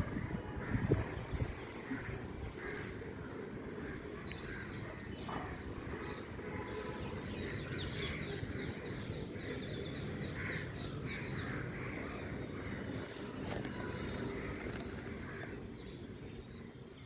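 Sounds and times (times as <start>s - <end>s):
birds chirping: 0.6s - 17.0s.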